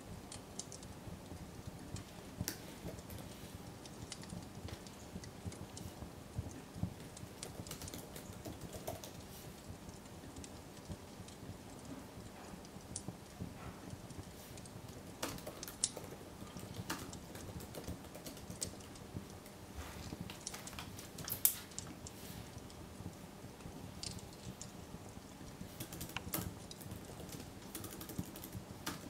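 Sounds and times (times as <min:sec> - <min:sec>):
laptop keyboard typing: 0:01.8 - 0:23.1, 0:24.0 - 0:29.0.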